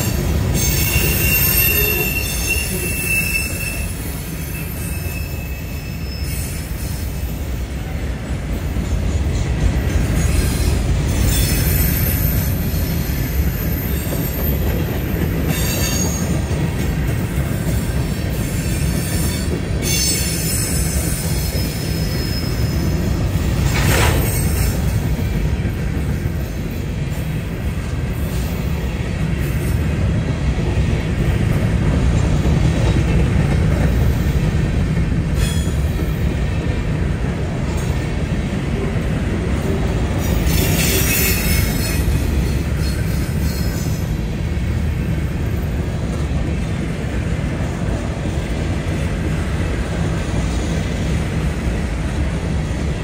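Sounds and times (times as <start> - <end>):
freight train rumbling on rails: 0.0 - 53.0.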